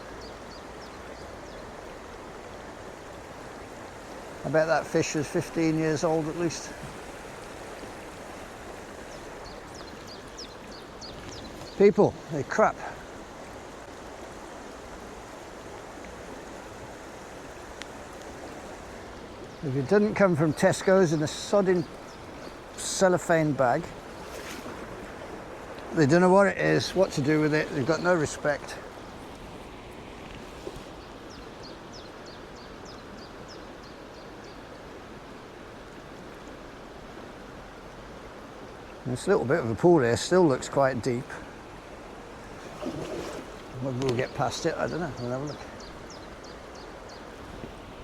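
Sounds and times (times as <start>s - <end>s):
stream running over stones: 0.0s - 48.0s.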